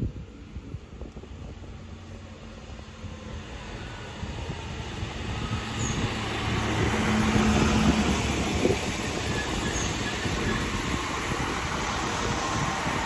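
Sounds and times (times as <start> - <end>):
rail rumble: 0.0 - 13.0
train engine hum: 0.0 - 13.0.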